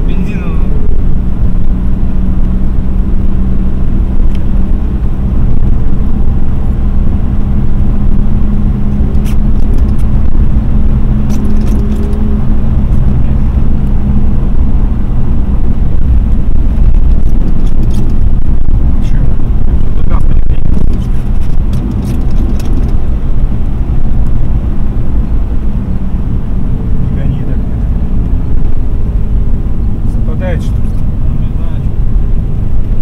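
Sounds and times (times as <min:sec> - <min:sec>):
car engine drone: 0:00.0 - 0:33.0
tyre and road rumble: 0:00.0 - 0:33.0.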